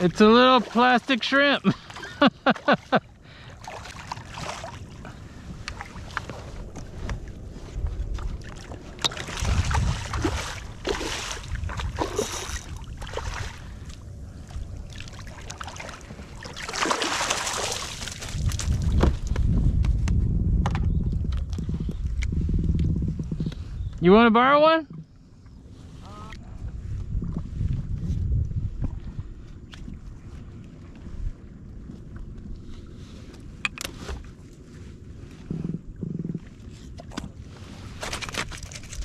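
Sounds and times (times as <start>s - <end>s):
water sloshing against hull: 0.0s - 20.1s, 24.8s - 39.0s
wind rumbling on microphone: 1.7s - 39.0s.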